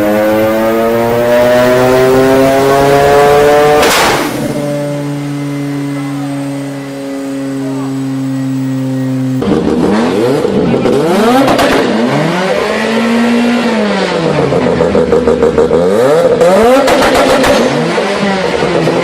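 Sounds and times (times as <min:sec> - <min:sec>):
rotary engine revving: 0:00.0 - 0:19.0.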